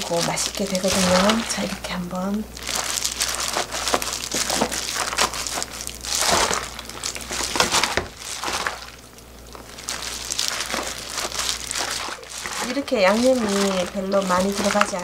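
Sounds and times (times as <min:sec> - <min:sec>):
cabbage leaves crinkling and crunching: 0:00.0 - 0:15.0.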